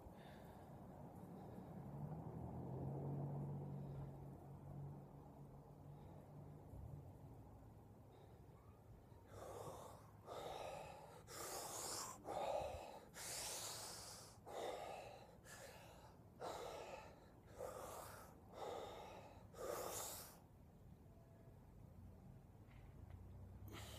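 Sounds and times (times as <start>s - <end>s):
man breathing hard and fast: 0.0s - 2.6s, 3.3s - 20.6s, 23.6s - 23.9s.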